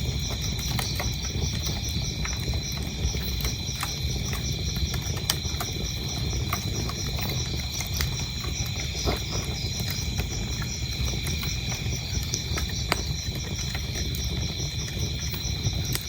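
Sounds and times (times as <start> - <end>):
crickets chirping: 0.0 - 16.0
wood fire crackling and popping: 0.0 - 16.0.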